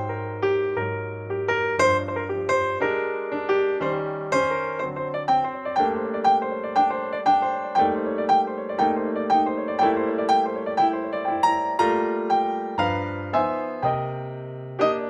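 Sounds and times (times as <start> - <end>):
piano playing repeated notes: 0.0 - 15.0.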